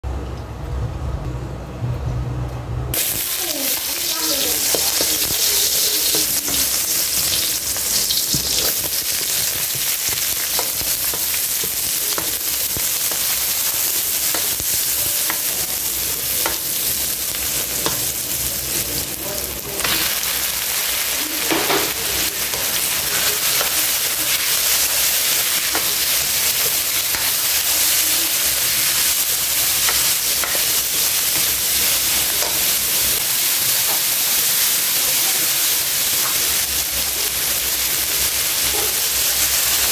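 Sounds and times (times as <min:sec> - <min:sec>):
food sizzling in hot oil: 0:02.9 - 0:39.9.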